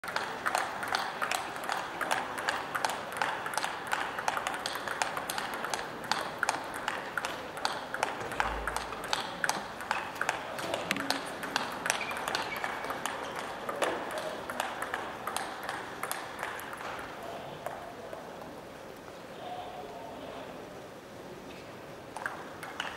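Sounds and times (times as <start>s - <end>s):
ball clicking off paddles: 0.0s - 17.8s, 22.1s - 22.9s.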